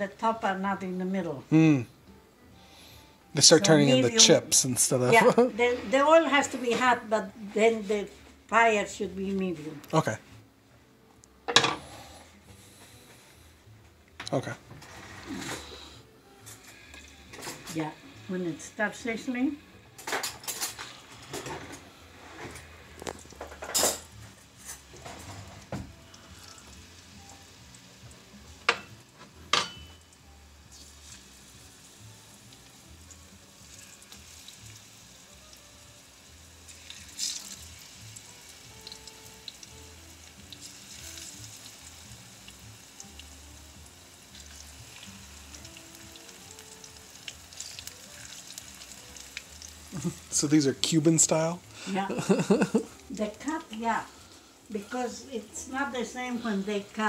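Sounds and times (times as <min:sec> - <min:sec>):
food sizzling in hot oil: 0:02.6 - 0:09.1, 0:14.7 - 0:57.0.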